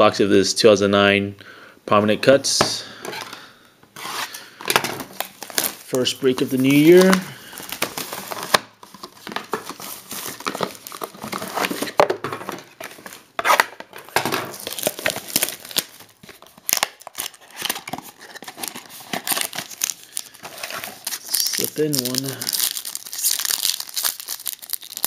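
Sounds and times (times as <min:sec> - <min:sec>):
packaging crinkling and tearing: 0:04.0 - 0:25.0.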